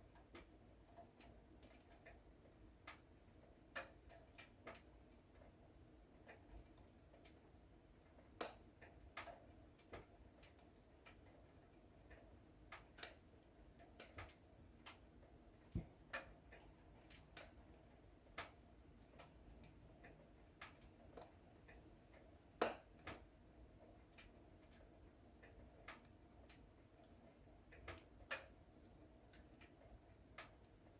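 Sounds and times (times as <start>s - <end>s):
faint steady hiss: 0.0s - 30.9s.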